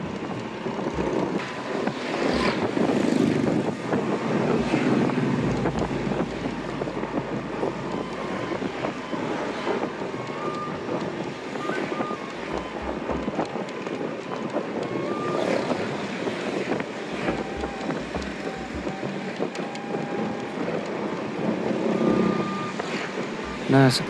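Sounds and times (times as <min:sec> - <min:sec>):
motorbike traffic: 0:00.0 - 0:24.0
wind rushing over microphone: 0:00.0 - 0:24.0.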